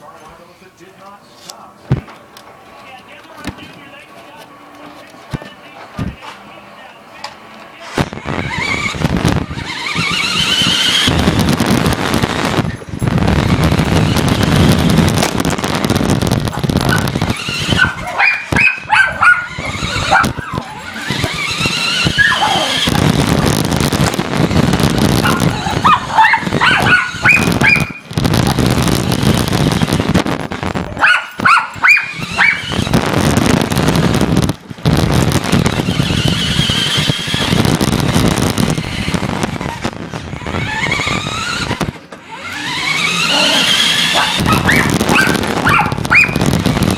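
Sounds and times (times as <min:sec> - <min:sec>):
wheels rumbling over ground: 0:01.9 - 0:46.9
electric motor whine: 0:08.1 - 0:46.9.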